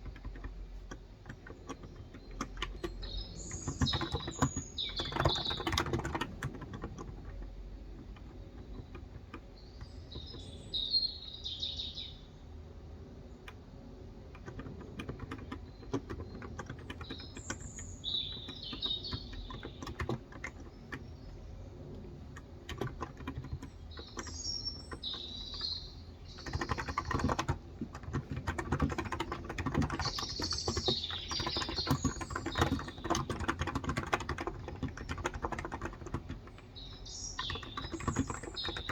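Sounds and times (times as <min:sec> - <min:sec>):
keyboard typing: 0:00.0 - 0:10.6, 0:13.4 - 0:38.9
birds chirping: 0:00.0 - 0:38.9.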